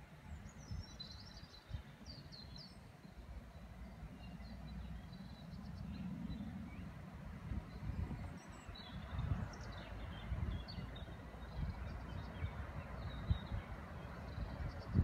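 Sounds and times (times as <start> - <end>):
wind buffeting microphone: 0.2 - 2.8, 4.9 - 15.0
small birds chirping: 0.2 - 15.0.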